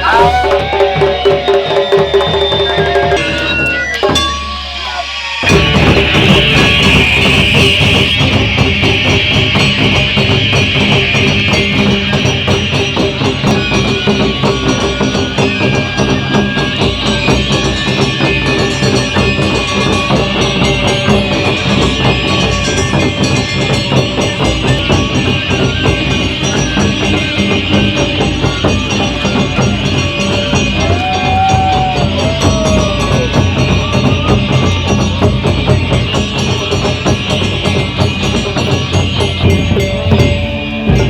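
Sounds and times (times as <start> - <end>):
taiko drums and hand percussion: 0.0 - 41.0.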